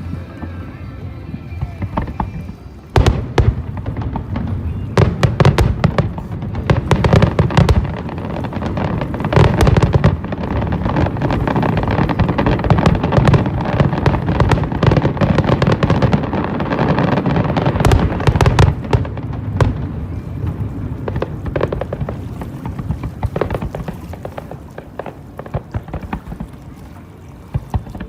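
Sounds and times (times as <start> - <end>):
fireworks crackling and popping: 0.0 - 28.0
rumble of firework booms: 1.6 - 26.6.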